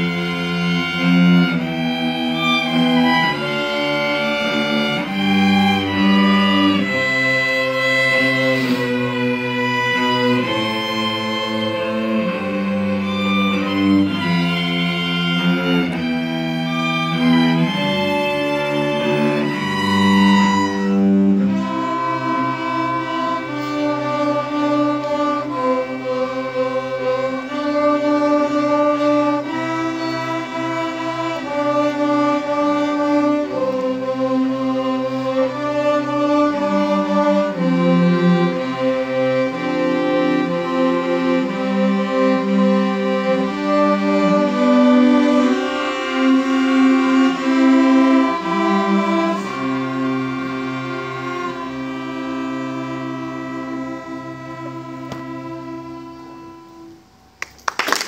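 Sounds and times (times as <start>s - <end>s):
cellos playing low line: 0.0s - 57.6s
violin melody: 0.0s - 57.6s.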